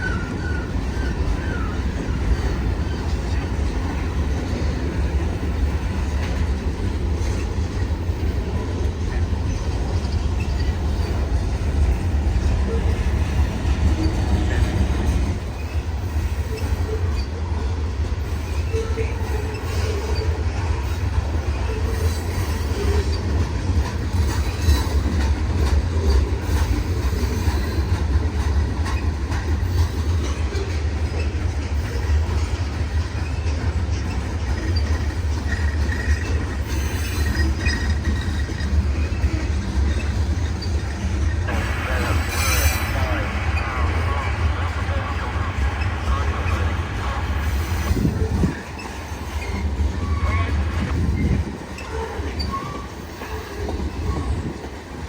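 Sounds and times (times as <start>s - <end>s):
train wheel squeals: 0.0s - 55.0s
train wheels rumbling on rails: 0.0s - 55.0s.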